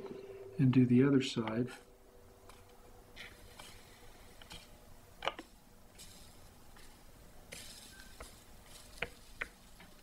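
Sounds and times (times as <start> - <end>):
faint hissing of soldering flux: 0.0 - 10.0.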